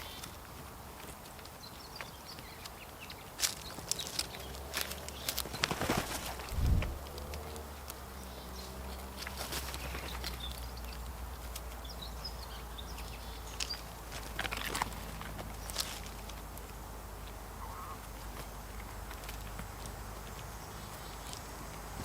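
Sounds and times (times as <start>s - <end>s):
birds tapping and rustling: 0.0s - 22.0s.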